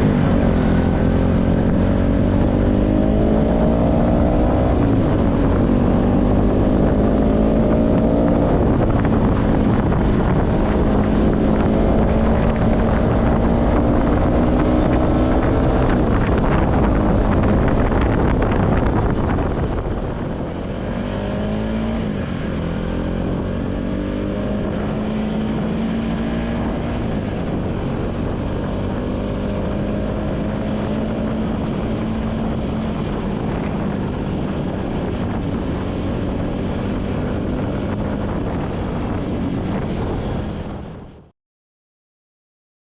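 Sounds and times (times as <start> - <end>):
motorcycle engine revving: 0.0 - 41.2
wind on microphone: 0.0 - 41.3.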